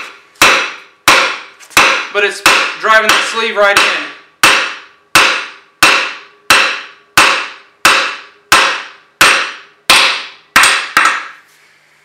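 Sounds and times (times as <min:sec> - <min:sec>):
sledgehammer striking steel: 0:00.0 - 0:11.4.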